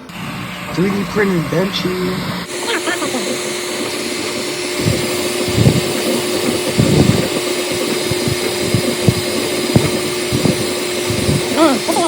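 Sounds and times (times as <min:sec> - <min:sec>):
printer fans humming: 0:00.0 - 0:12.0
stepper motors whirring: 0:00.0 - 0:12.0.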